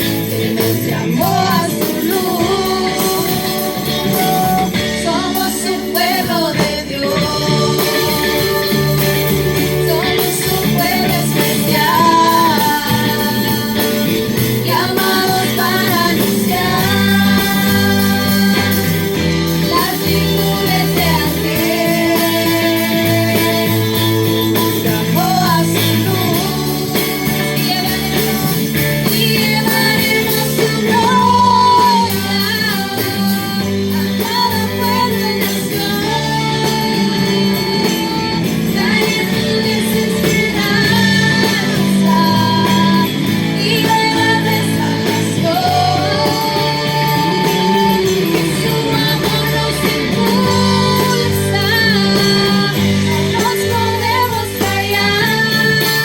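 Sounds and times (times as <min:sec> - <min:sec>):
guitar accompaniment: 0:00.0 - 0:56.0
worship song singing: 0:00.0 - 0:56.0.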